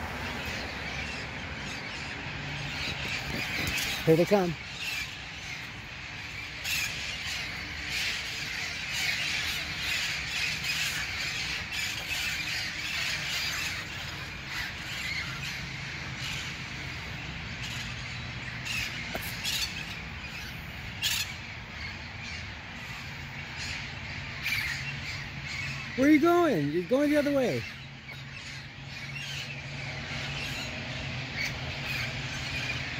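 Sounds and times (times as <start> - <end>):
parrots squawking: 0.2 - 32.9.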